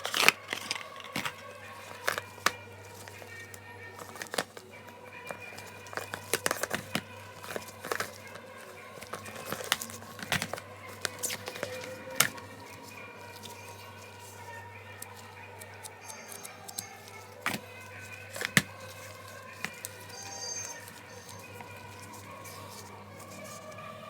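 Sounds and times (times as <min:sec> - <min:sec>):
packaging crinkling and tearing: 0:00.0 - 0:24.0.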